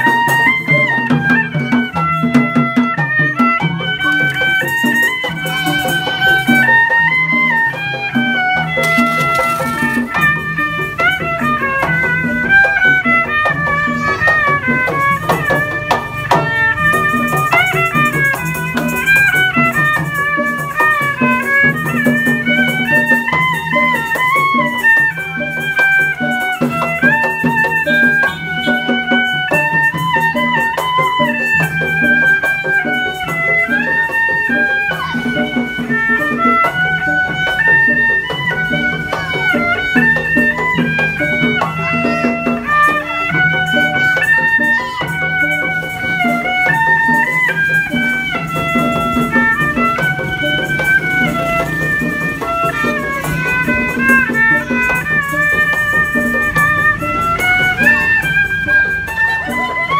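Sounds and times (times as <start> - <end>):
high sliding melody: 0.0 - 59.9.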